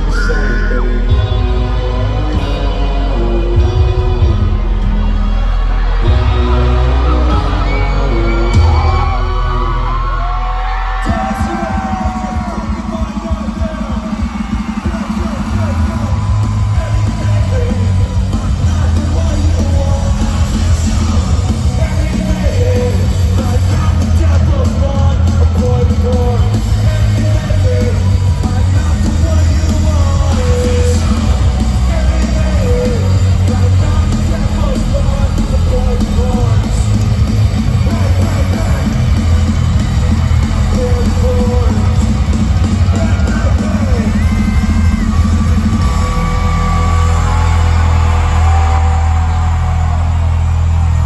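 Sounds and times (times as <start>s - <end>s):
person singing: 0.0s - 50.1s
heavy drums: 0.0s - 51.0s
live rock band playing: 0.0s - 51.0s.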